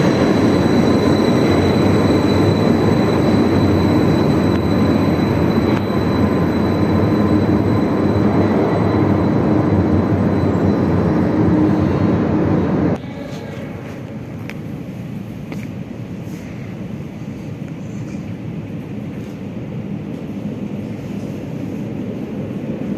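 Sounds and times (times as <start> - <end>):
metro train rumbling: 0.0 - 22.9.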